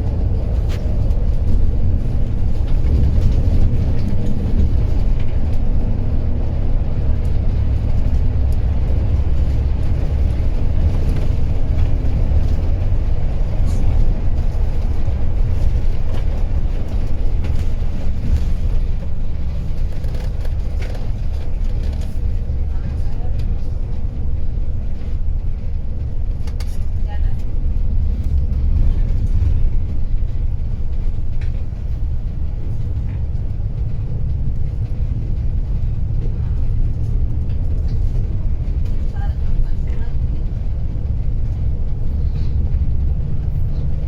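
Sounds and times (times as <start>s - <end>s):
bus engine and road noise: 0.0s - 44.0s
faint rattles and knocks: 0.0s - 44.0s.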